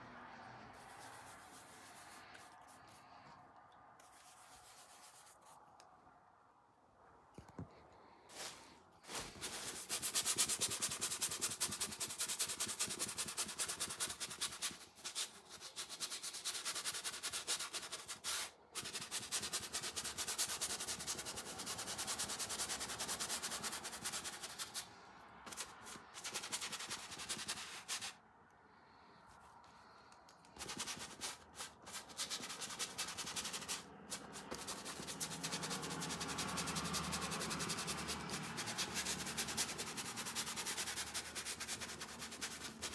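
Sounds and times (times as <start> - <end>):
paintbrush scrubbing surface: 0.4 - 3.4, 4.0 - 5.8, 8.3 - 28.2, 30.5 - 42.9.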